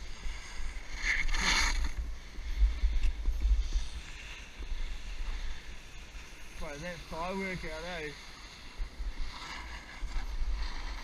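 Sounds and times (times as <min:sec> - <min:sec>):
snowboard scraping over snow: 0:00.0 - 0:11.0.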